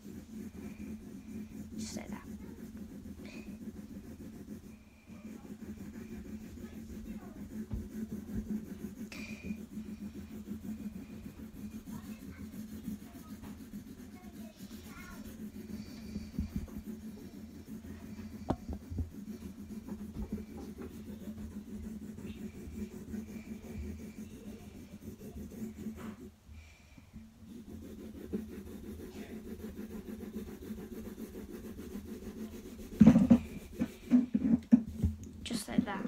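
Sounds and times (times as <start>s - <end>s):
pencil shading on paper: 0.0s - 26.4s, 27.4s - 36.0s.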